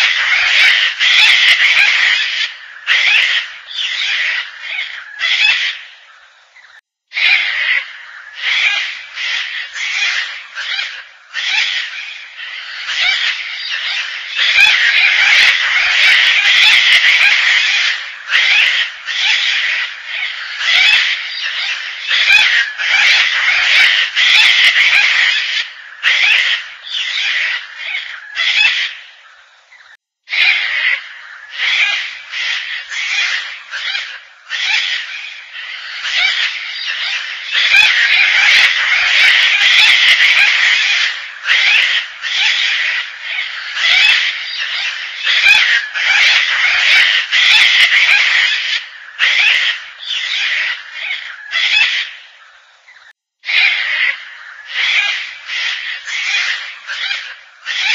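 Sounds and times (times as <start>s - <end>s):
cockatoo grating creaky calls: 0.0s - 5.9s, 7.1s - 29.1s, 29.8s - 52.3s, 53.0s - 57.9s.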